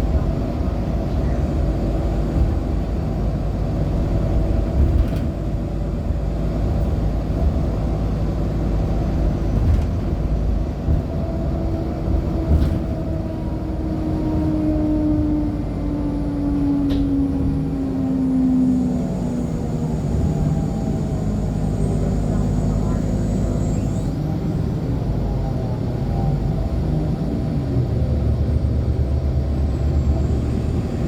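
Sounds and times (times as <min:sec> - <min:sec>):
bus drivetrain rumble: 0:00.0 - 0:31.0.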